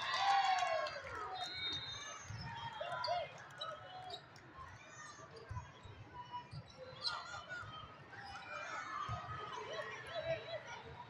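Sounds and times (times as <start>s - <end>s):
spectators chattering and calling: 0.0s - 11.0s.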